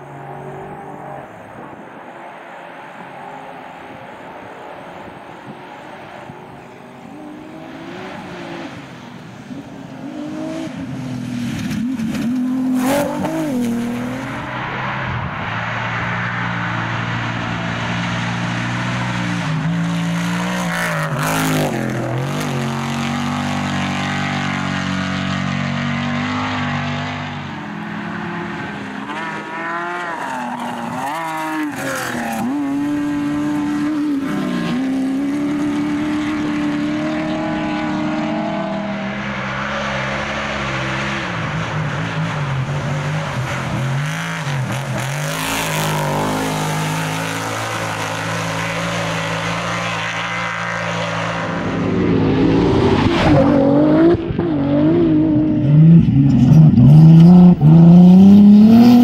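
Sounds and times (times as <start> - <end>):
race engines revving past: 0.0 - 59.0.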